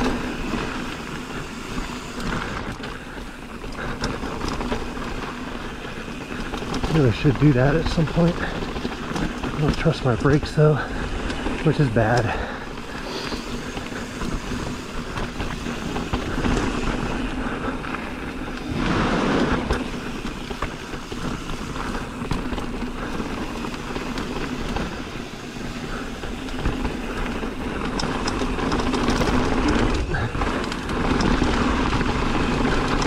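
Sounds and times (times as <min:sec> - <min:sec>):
bike rattling and knocks: 0:00.0 - 0:33.0
wind and tyre noise: 0:00.0 - 0:33.0.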